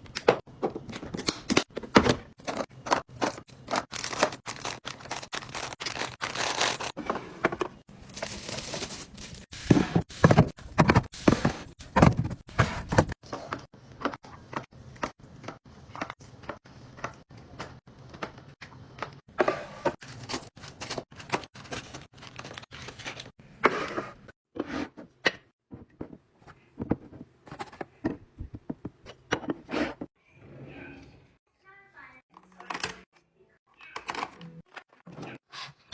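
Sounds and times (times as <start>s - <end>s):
kitchen items clattering: 0.1s - 30.1s.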